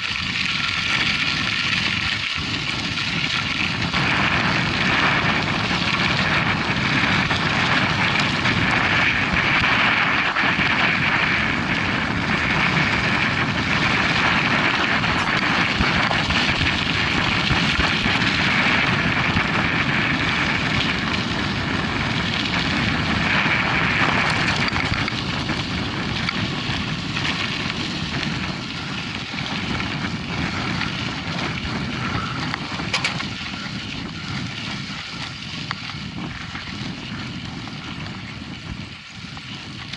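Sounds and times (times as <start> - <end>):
bike tyres rolling over track: 0.0 - 39.9
wind on microphone: 0.0 - 39.9.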